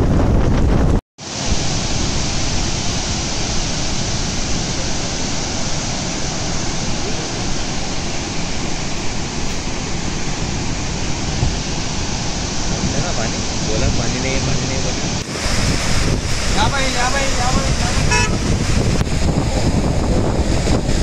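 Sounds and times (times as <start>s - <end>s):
water rushing down a dam: 1.2s - 21.0s.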